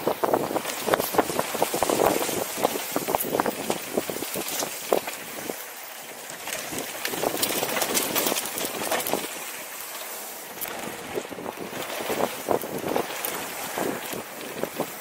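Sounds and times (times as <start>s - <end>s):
bike clicks and rattles: 0.0s - 15.0s
bike tyres crunching on dirt: 0.0s - 15.0s.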